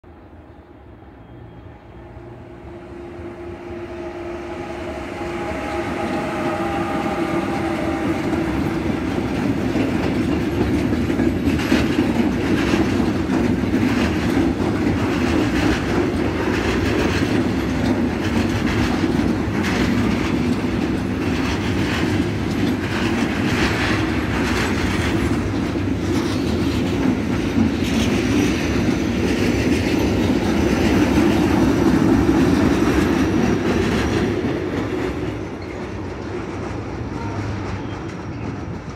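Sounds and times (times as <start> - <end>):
electric locomotive whine: 0.1 - 38.9
freight wagons rumbling past: 1.2 - 38.9
wheels clacking over rail joints: 4.1 - 38.9.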